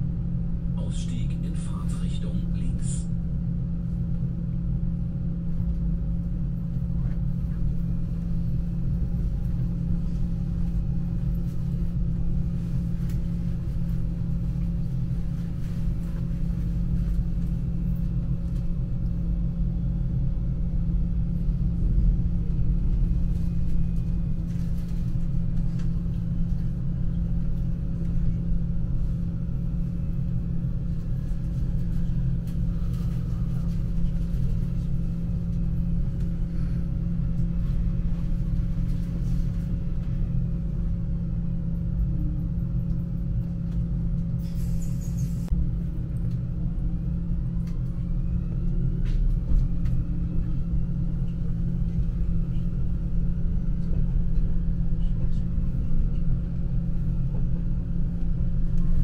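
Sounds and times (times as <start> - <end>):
constant hum: 0.0 - 59.0
train rumbling on track: 0.0 - 59.0.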